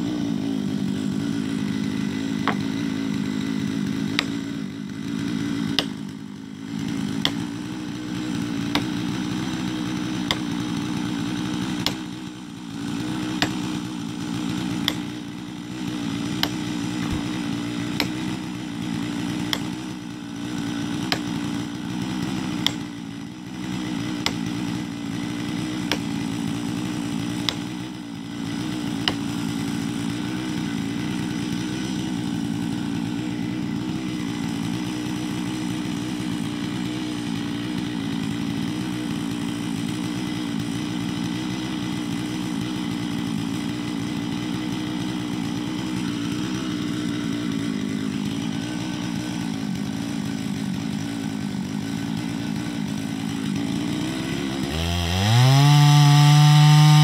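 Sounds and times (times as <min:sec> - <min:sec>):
chainsaw idling: 0:00.0 - 0:57.0.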